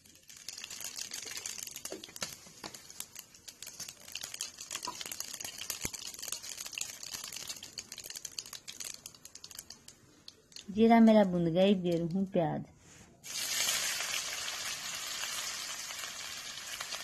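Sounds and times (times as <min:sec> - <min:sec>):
seeds sizzling in hot oil: 0:00.0 - 0:10.8, 0:13.2 - 0:17.0.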